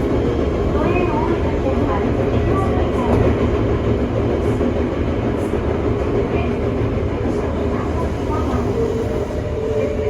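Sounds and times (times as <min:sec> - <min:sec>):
train wheels and motors rumbling: 0:00.0 - 0:10.0.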